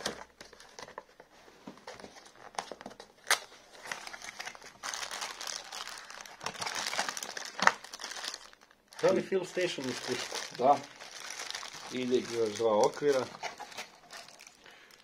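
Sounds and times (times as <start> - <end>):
plastic bags crinkling: 2.0 - 15.0.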